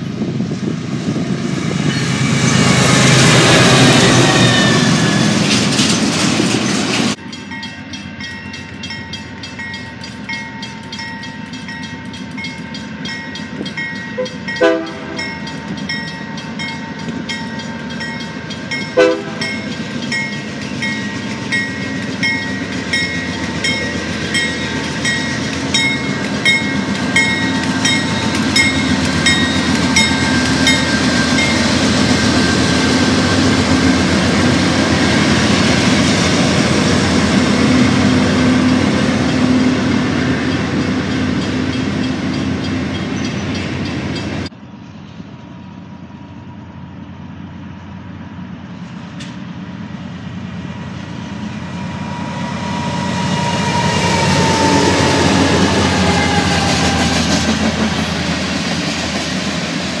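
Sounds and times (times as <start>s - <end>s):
diesel locomotives passing: 0.0s - 60.0s
freight train rolling over rails: 0.0s - 60.0s.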